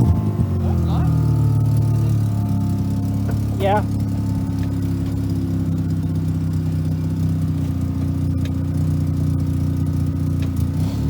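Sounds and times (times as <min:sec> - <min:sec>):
rotary engine idling: 0:00.0 - 0:11.0.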